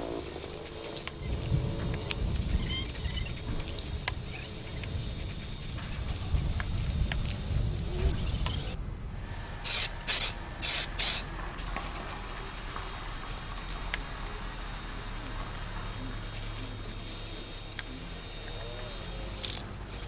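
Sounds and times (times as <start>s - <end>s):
spray paint can hissing: 0.0s - 8.8s, 9.6s - 20.0s.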